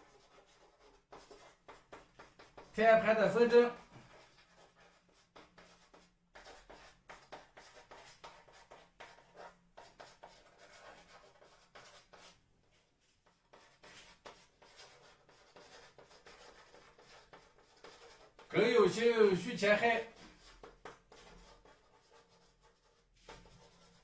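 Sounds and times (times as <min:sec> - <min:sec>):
chalk scratching on blackboard: 0:00.0 - 0:12.4, 0:13.2 - 0:24.0.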